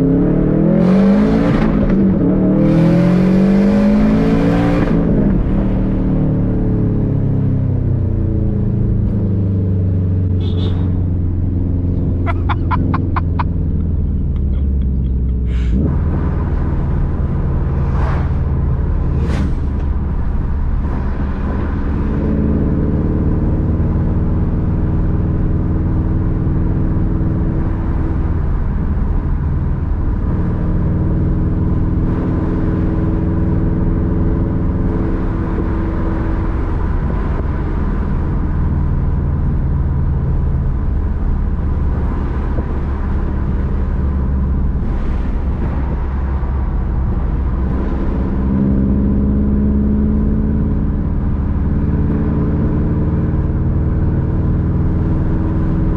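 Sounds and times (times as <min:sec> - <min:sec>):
car engine rumbling: 0:00.0 - 0:55.9.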